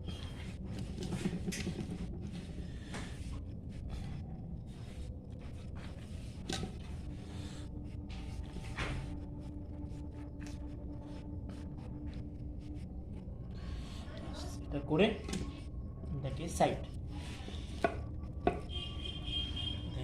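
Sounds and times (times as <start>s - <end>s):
faint hum: 0.0s - 20.0s
low steady rumble: 0.0s - 20.0s.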